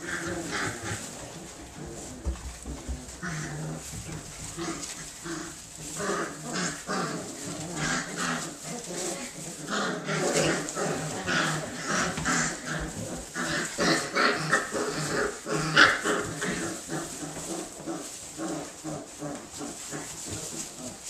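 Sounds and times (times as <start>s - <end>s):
puppies growling yipping and whining: 0.0s - 21.0s
rustle of shredded paper: 0.0s - 21.0s.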